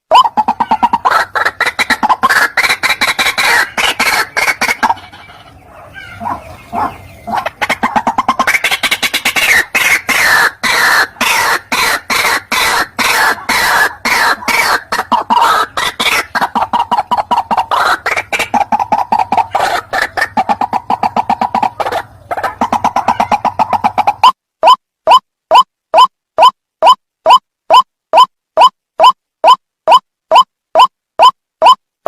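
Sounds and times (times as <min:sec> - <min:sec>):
waterhen calling: 0:00.1 - 0:30.9.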